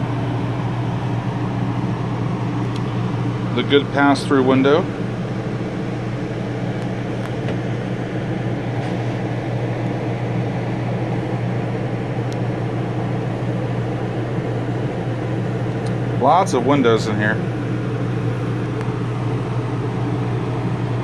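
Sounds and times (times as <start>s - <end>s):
air conditioner hum: 0.0s - 21.0s.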